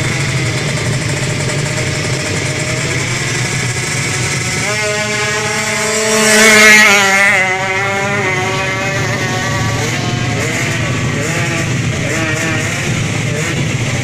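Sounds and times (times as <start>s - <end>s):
motorcycle accelerating past: 0.0s - 14.0s
motorcycle engine revving in blips: 0.0s - 14.0s.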